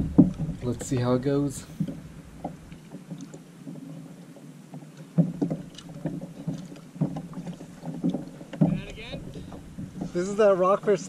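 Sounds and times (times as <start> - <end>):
gear knocking on hull: 0.0 - 3.8, 5.1 - 11.0
water lapping against hull: 0.0 - 11.0.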